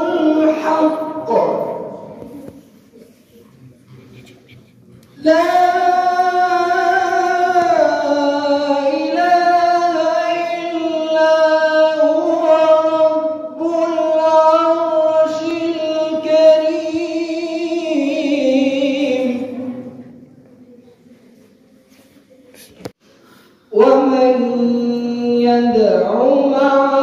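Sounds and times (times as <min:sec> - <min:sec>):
boy chanting into microphone: 0:00.0 - 0:21.4, 0:23.7 - 0:27.0.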